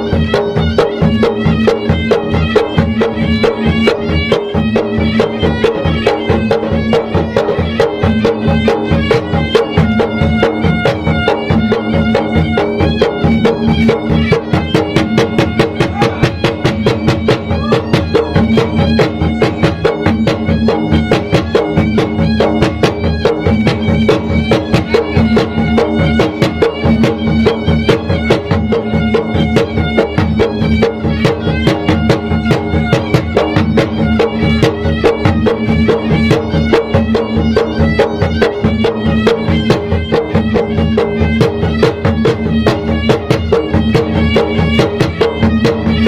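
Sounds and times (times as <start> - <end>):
drums beaten in fast rhythm: 0.0 - 46.0
shrill reed wind instrument melody: 0.0 - 46.0.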